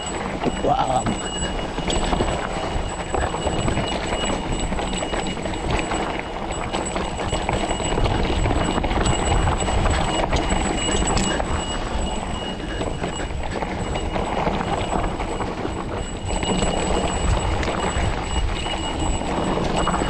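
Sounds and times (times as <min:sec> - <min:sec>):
wind rumble: 0:00.0 - 0:20.0.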